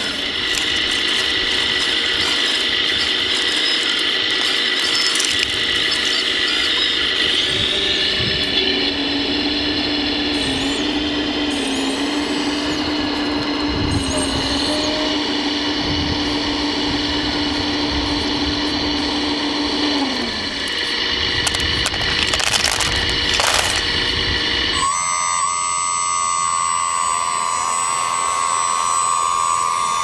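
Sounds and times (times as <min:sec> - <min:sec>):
electric motor and pump whine: 0:00.0 - 0:30.0.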